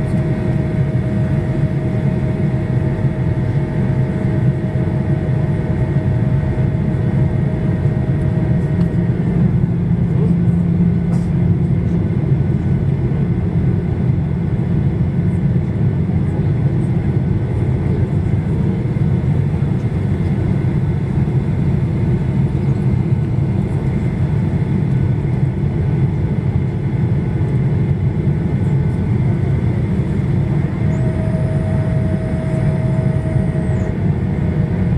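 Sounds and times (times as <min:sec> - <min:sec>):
airplane cabin engine drone: 0:00.0 - 0:34.9.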